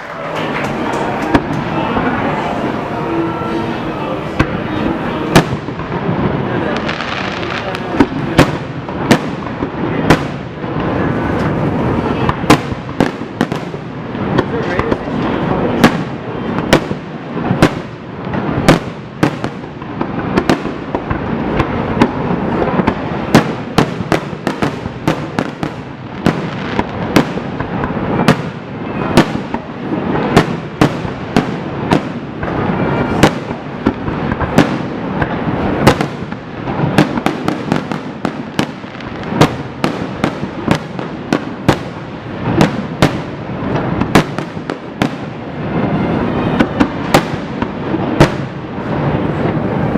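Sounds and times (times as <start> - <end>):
firework crackling: 0.0 - 49.9.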